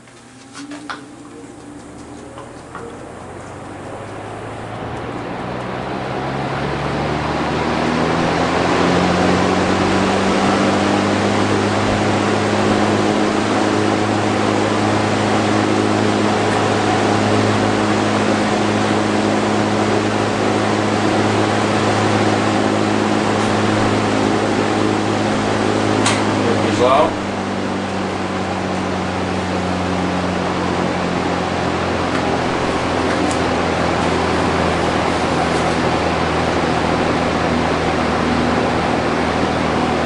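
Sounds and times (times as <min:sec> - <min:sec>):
box fan running: 0:00.0 - 0:40.0.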